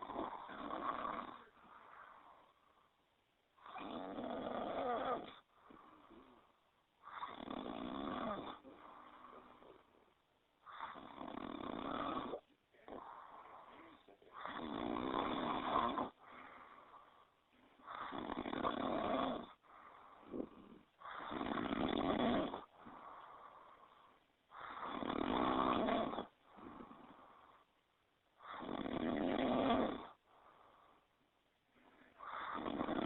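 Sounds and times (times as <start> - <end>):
polar bear snoring: 0.0 - 2.6, 3.6 - 10.0, 10.6 - 16.9, 17.8 - 27.6, 28.4 - 30.8, 31.8 - 33.0
quiet breath: 0.0 - 4.2, 4.9 - 33.0.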